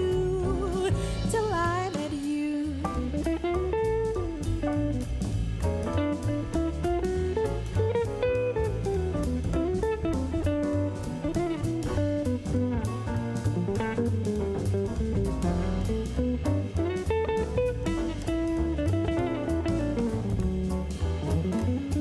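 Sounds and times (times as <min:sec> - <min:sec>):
guitar-led song with drums: 0:00.0 - 0:22.0.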